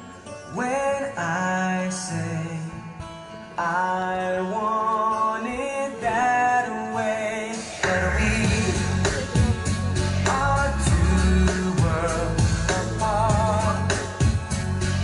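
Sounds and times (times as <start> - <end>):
backing music: 0.0 - 15.0.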